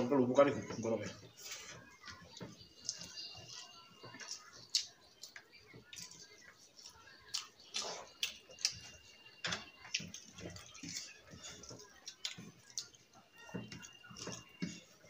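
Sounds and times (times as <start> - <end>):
fingers mixing rice on plates: 0.0 - 15.0
people chewing wetly: 0.0 - 15.0.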